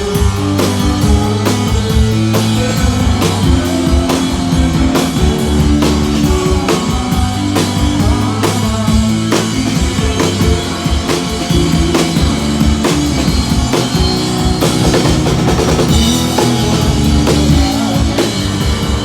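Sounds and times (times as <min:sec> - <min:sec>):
drum kit beat: 0:00.0 - 0:19.0
live rock band playing: 0:00.0 - 0:19.0.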